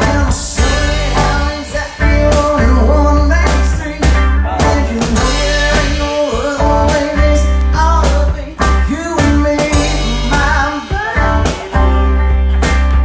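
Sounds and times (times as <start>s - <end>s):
man singing: 0.0s - 12.4s
electric guitar strummed: 0.0s - 13.0s.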